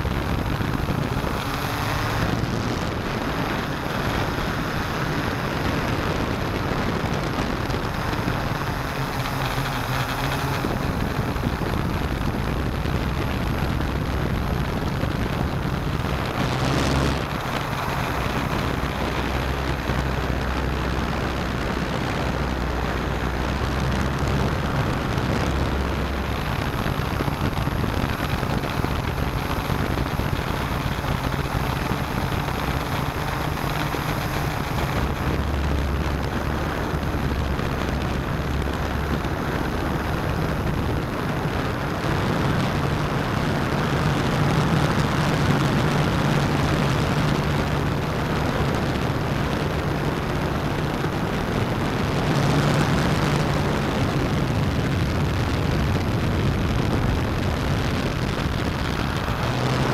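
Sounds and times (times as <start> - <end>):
drone motors and propellers humming: 0.0 - 59.9
rush of air: 0.0 - 59.9.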